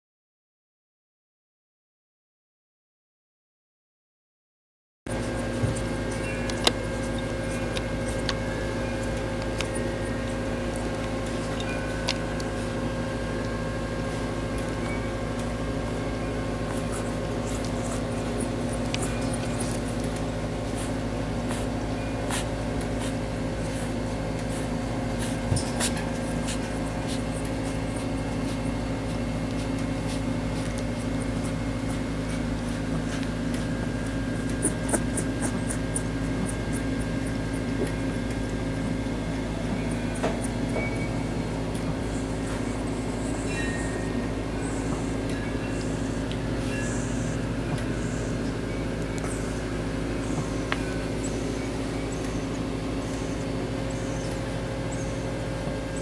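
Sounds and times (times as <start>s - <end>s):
machine hum: 5.1s - 56.0s.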